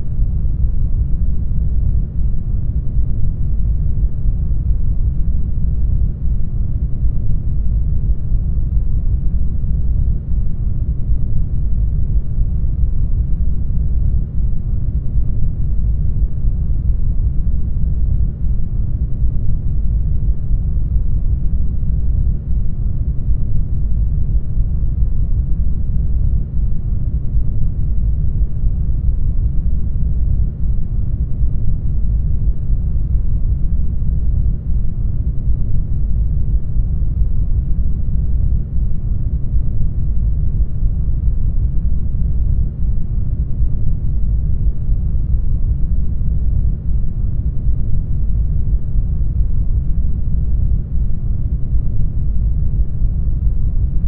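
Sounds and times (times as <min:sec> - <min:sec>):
deep muffled rumble: 0:00.0 - 0:54.0.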